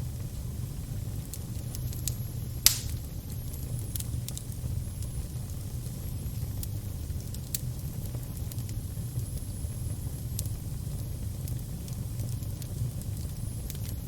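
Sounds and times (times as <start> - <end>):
fire crackling: 0.0 - 14.0
fire popping: 0.0 - 14.0.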